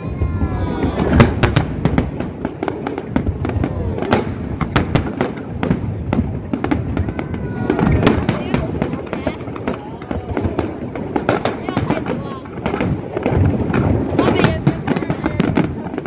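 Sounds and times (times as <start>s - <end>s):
firework shells bursting: 0.4s - 16.0s.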